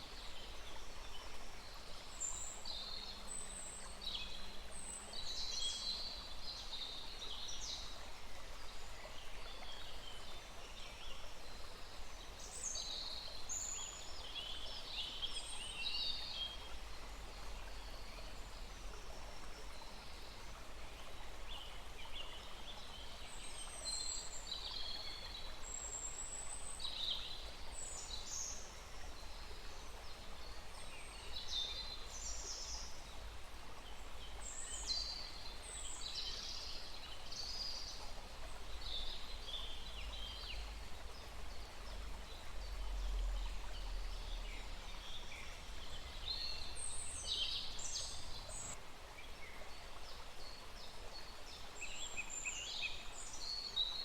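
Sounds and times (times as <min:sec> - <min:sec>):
songbirds chirping: 0:00.0 - 0:54.0
stream running: 0:00.0 - 0:54.0.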